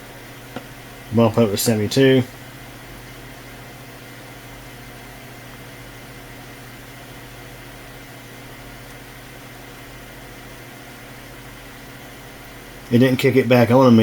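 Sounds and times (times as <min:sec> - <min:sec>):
constant hiss: 0:00.0 - 0:14.0
low machine hum: 0:00.0 - 0:14.0.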